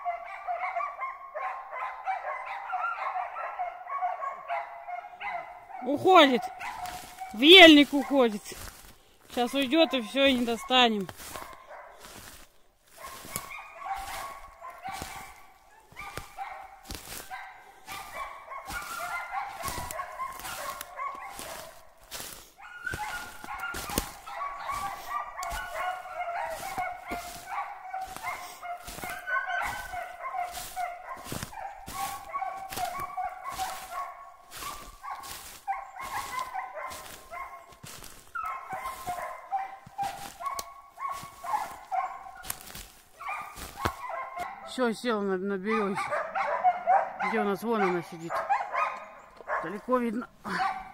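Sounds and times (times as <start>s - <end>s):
dogs barking: 0.0s - 50.9s.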